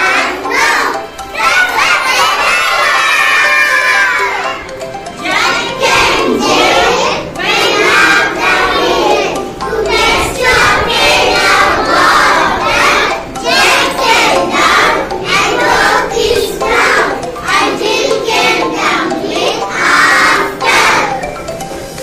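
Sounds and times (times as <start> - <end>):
children chanting in unison: 0.0 - 21.2.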